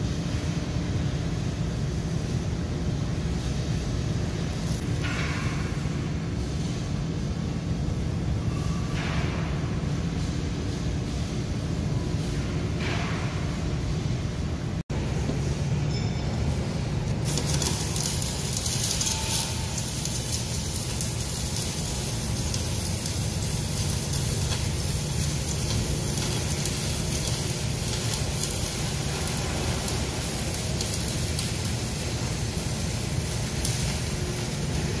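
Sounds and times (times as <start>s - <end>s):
arc welding crackling sizzle: 0.0s - 15.8s, 17.0s - 35.0s
steady low hum: 0.0s - 35.0s.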